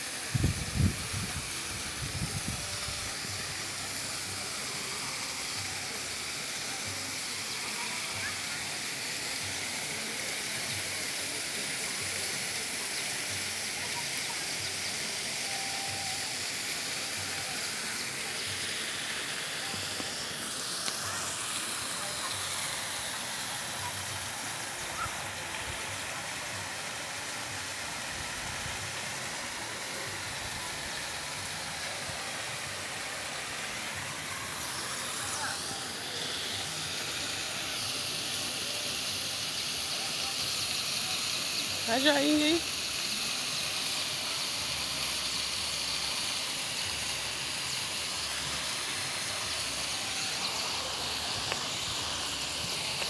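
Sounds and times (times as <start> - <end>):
rushing water: 0.0 - 53.0.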